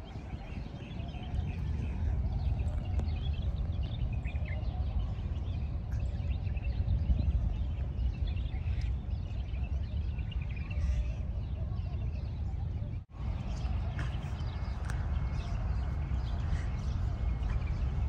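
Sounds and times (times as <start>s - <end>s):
birds chirping and calling: 0.0s - 18.0s
low outdoor rumble: 0.0s - 18.0s.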